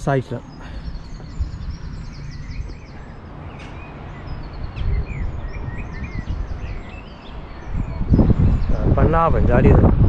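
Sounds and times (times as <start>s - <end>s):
birds chirping: 0.0s - 10.0s
wind buffeting microphone: 0.0s - 10.0s.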